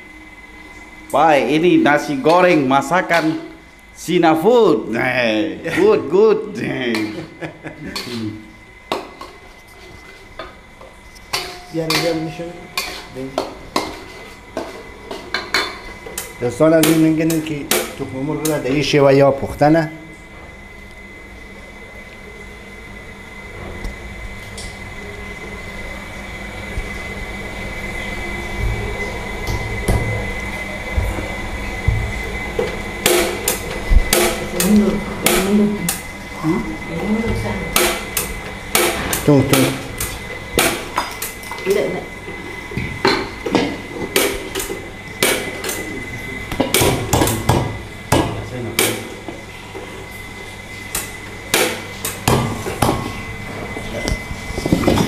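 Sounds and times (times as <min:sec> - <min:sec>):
gas stove hissing: 0:00.0 - 0:55.0.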